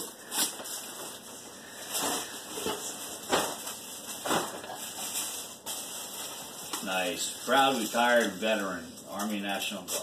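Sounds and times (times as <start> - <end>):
tissue paper and gift bag crinkling: 0.0 - 10.0.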